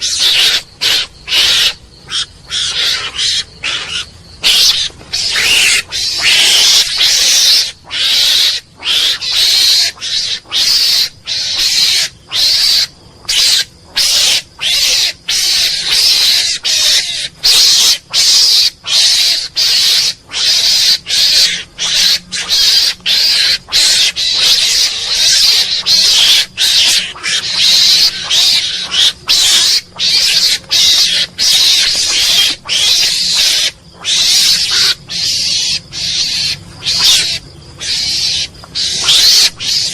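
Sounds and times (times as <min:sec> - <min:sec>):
mongoose harsh hissy calls: 0:00.0 - 0:39.9.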